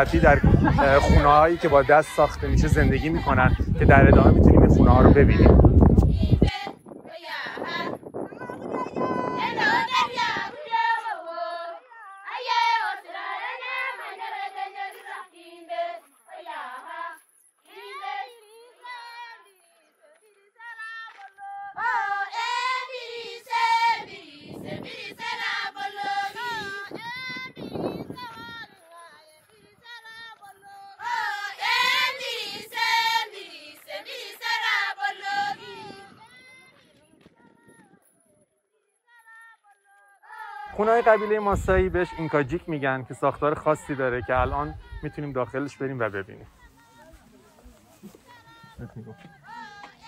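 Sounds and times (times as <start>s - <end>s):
women singing together: 0.0s - 36.6s, 39.7s - 42.5s, 46.6s - 50.0s.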